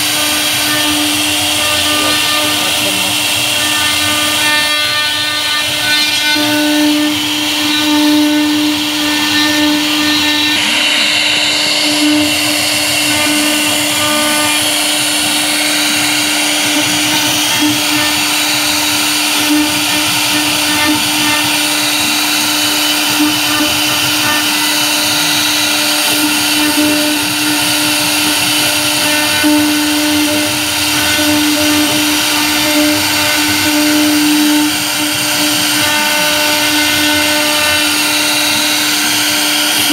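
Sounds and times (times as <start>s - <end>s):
router bit cutting wood: 0.0s - 39.9s
router spindle whining: 0.0s - 39.9s.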